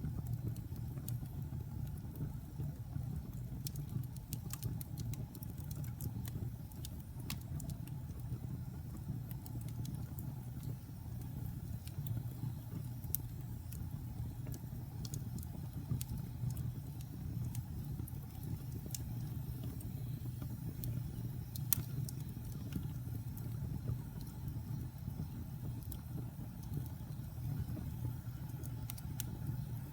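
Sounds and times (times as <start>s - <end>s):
fire crackling and popping: 0.0s - 29.9s.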